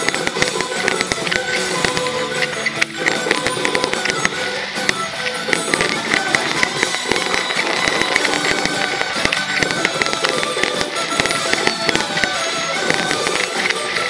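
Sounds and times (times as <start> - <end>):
fireworks crackling and popping: 0.0 - 14.0
loud background music: 0.0 - 14.0.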